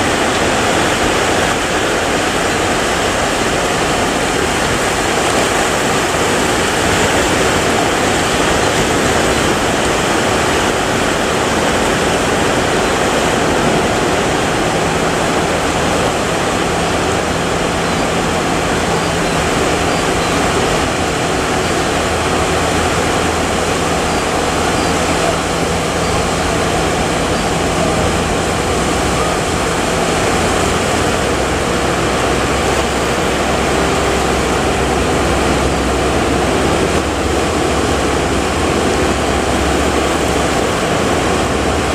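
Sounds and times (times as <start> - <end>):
heavy surf breaking: 0.0 - 41.9.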